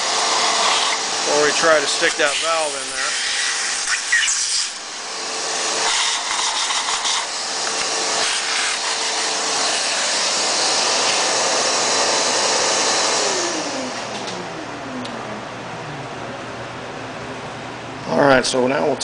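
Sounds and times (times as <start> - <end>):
shop vacuum running: 0.0 - 19.0.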